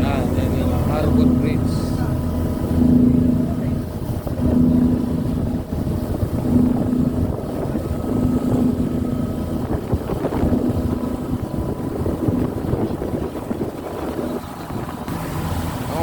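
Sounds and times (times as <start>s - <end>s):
bus engine and road noise: 0.0s - 16.0s
wind buffeting microphone: 0.0s - 16.0s.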